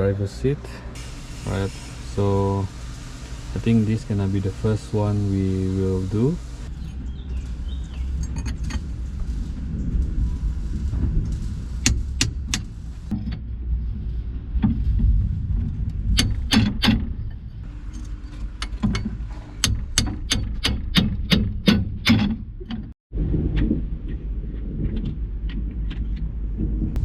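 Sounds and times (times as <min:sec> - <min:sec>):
low rumble: 0:00.0 - 0:20.6, 0:21.9 - 0:27.0.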